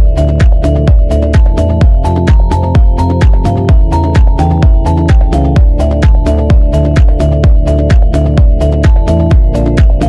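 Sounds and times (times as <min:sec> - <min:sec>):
held synth notes: 0:00.0 - 0:10.0
kick drum: 0:00.0 - 0:10.0.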